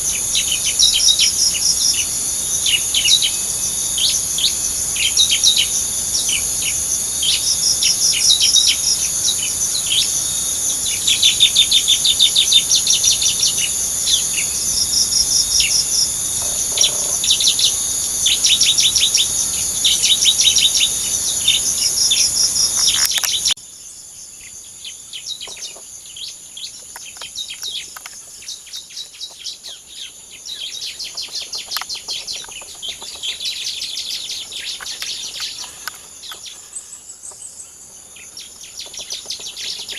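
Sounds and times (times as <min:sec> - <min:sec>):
high-pitched insect drone: 0:00.0 - 0:39.9
small songbirds chirping and trilling: 0:00.0 - 0:39.9.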